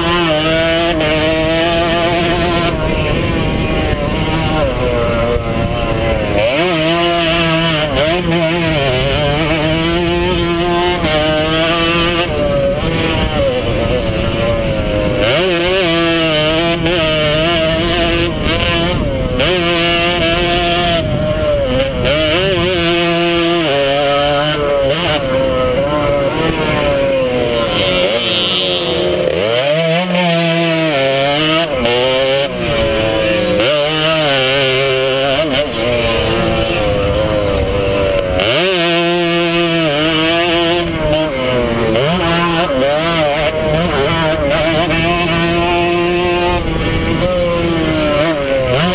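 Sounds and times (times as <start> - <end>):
motocross bike engine revving: 0.0 - 48.9
wind rushing over microphone: 0.0 - 48.9.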